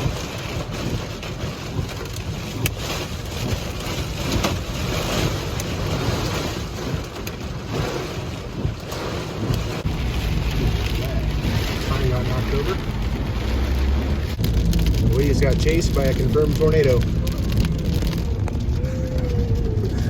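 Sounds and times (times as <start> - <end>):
gusting wind: 0.0 - 20.0
heavy rain: 0.0 - 20.0
steady low rumble: 0.0 - 20.0.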